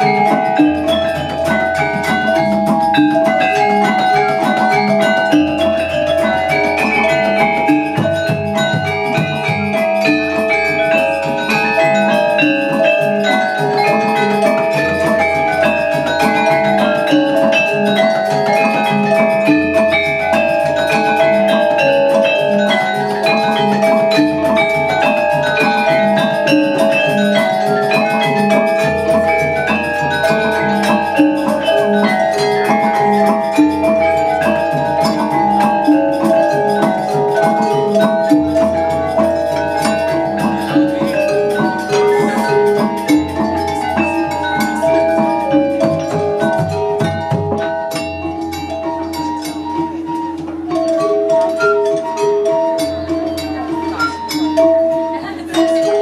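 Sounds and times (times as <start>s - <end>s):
metallophones and gong chimes ringing: 0.0s - 56.0s.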